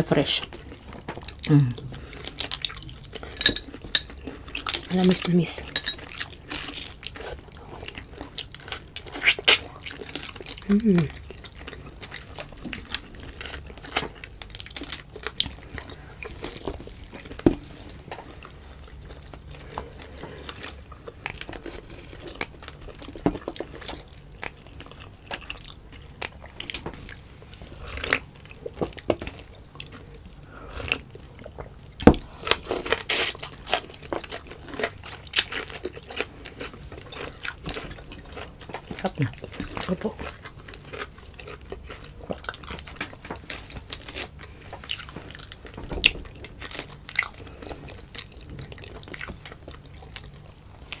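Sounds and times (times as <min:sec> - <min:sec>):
person chewing food: 0:00.5 - 0:51.0.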